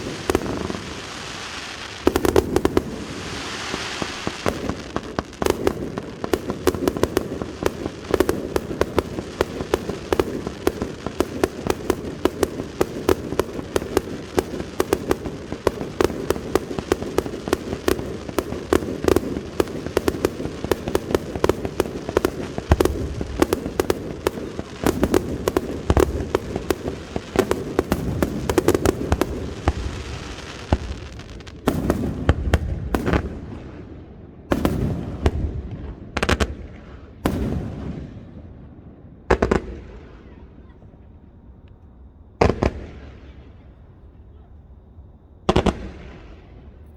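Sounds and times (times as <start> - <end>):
fireworks bangs: 0.0 - 41.2, 42.4 - 44.5, 45.4 - 46.9
heavy fireworks booms: 0.0 - 41.3, 42.3 - 44.5, 45.4 - 46.9.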